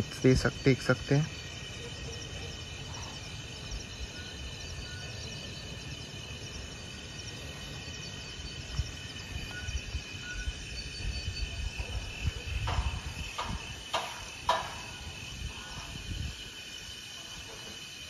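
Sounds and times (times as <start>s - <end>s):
crickets and insects chirping: 0.0s - 18.0s.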